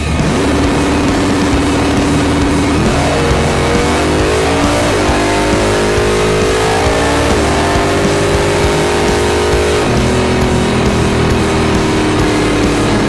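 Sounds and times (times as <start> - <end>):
drag car engine accelerating: 0.0 - 13.0.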